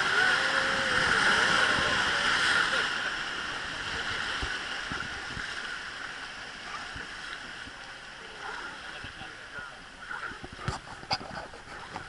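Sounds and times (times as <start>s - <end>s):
rushing river rapids: 0.0s - 12.0s.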